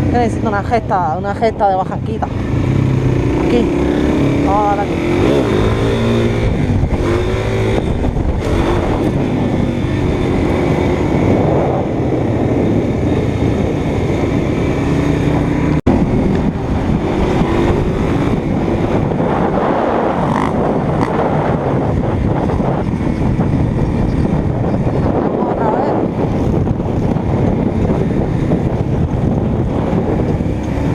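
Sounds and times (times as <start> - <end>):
motorcycle engine: 0.0 - 30.9
wind rumble on microphone: 0.0 - 30.9.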